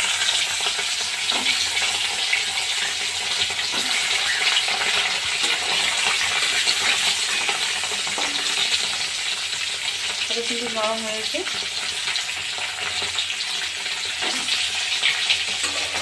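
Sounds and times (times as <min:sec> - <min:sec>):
egg frying in hot oil: 0:00.0 - 0:16.0.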